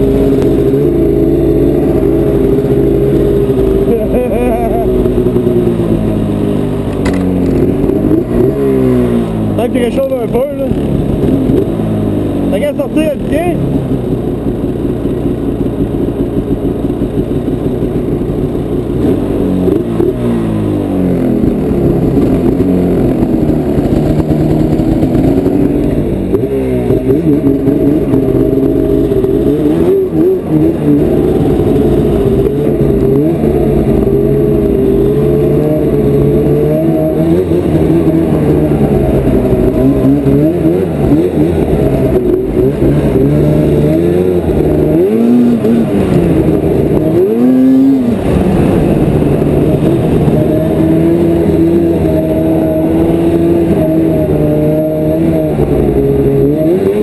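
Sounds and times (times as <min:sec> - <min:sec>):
snowmobile engine revving: 0:00.0 - 0:17.6, 0:18.2 - 0:57.0.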